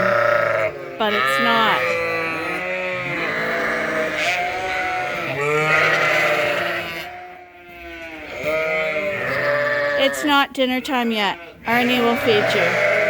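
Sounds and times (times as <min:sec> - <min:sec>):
sheep bleating: 0:00.0 - 0:13.0.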